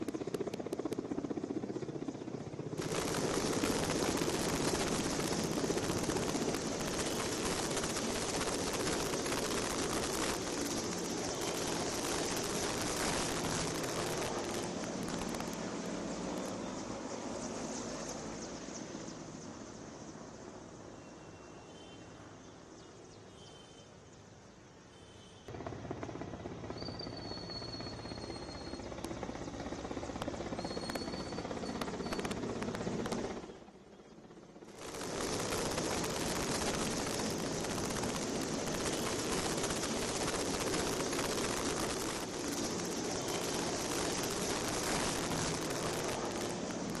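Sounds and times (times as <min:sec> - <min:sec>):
helicopter rotor and engine: 0:00.0 - 0:23.1, 0:25.5 - 0:47.0.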